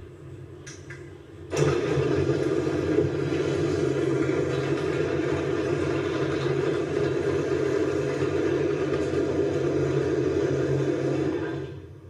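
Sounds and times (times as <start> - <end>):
garage door opener motor running: 1.5 - 12.0.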